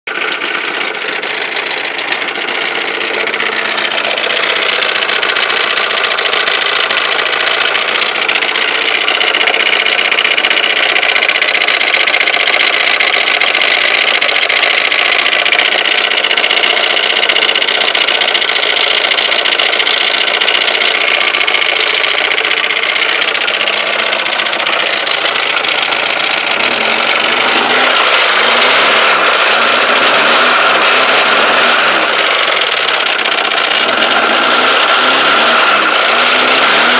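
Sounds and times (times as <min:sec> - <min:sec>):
car engine running with knocking: 0:00.1 - 0:36.9.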